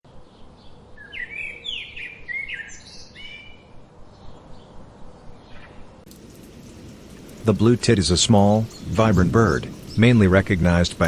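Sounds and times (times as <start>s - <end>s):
songbird singing: 0.1s - 11.0s.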